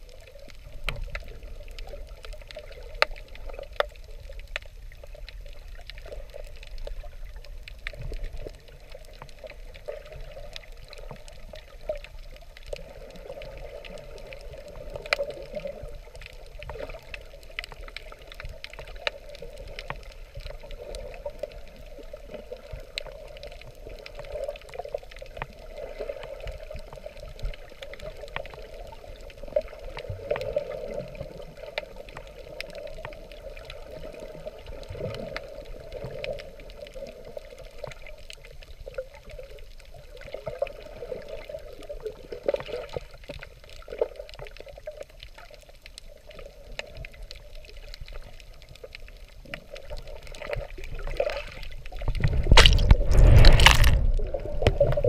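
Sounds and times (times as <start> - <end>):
muffled underwater rush: 0.0 - 55.0.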